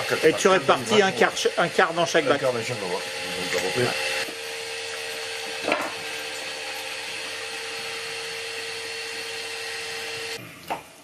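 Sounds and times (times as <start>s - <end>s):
electric machine drone: 0.0s - 10.4s.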